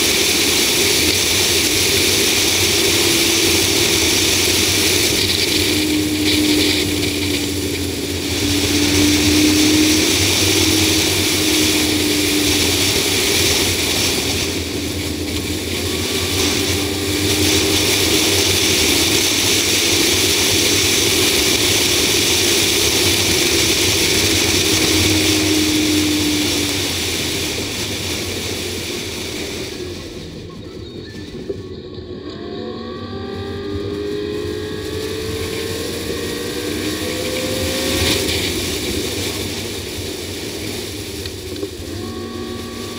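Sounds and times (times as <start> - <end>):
car engine hum: 0.0 - 42.9
wind and road noise rushing: 0.0 - 42.9.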